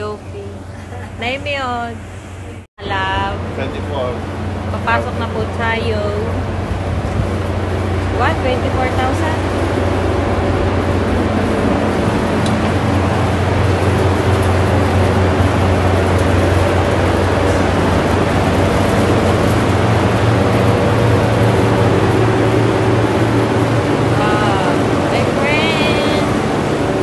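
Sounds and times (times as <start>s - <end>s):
refrigeration units humming: 0.0s - 27.0s.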